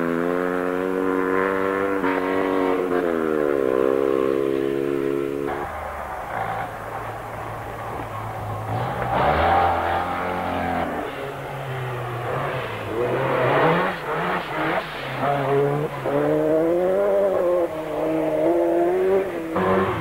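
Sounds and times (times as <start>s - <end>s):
rally car engines revving: 0.0s - 20.0s.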